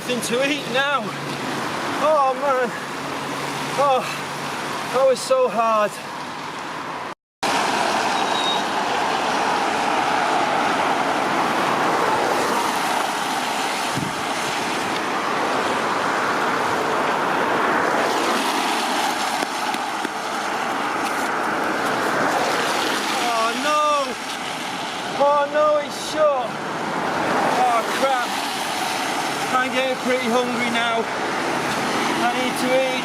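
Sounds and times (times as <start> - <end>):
road traffic noise: 0.0 - 33.0.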